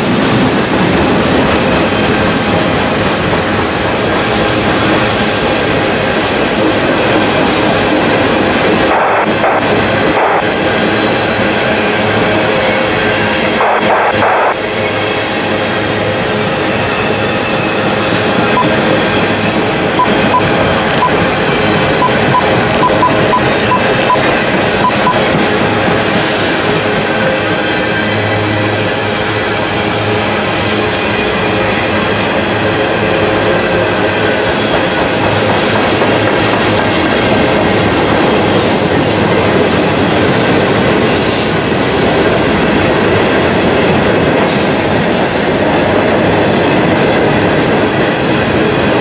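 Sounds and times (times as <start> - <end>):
steel train wheels on rails: 0.0 - 49.0.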